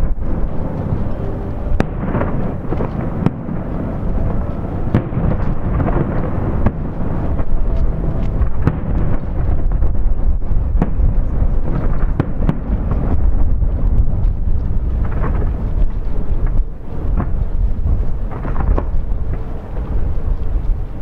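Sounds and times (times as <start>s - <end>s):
fireworks bursting: 0.0s - 21.0s
sharp cracks of fireworks: 0.0s - 21.0s.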